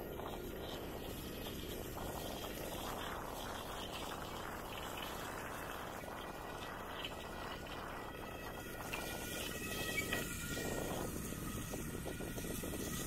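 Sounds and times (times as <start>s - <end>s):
bicycle rolling noise: 0.0s - 13.0s.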